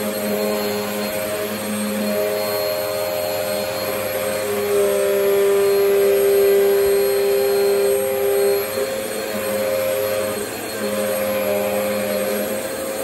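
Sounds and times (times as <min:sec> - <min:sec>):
vacuum cleaner motor whining: 0:00.0 - 0:13.0.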